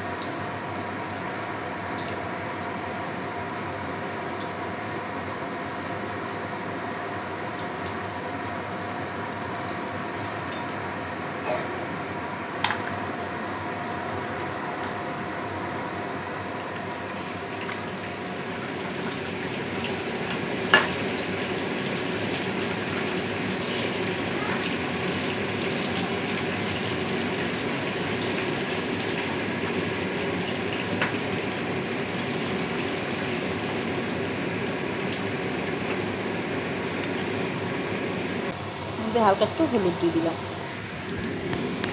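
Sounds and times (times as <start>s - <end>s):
potatoes sizzling in hot oil: 0.0s - 40.8s.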